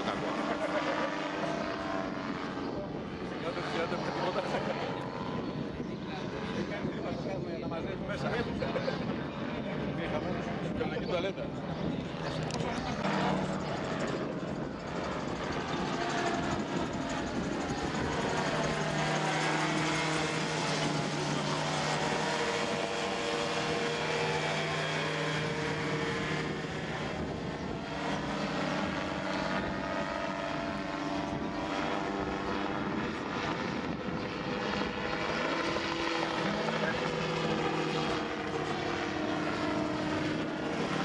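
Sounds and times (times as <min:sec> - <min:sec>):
gyroplane engine droning overhead: 0:00.0 - 0:41.0.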